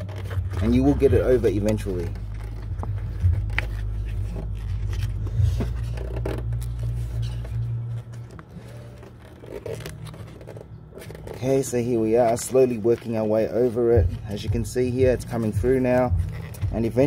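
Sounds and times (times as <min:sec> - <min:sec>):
low steady hum: 0:00.0 - 0:17.0
rubber cover rubbing and scraping: 0:00.0 - 0:17.0.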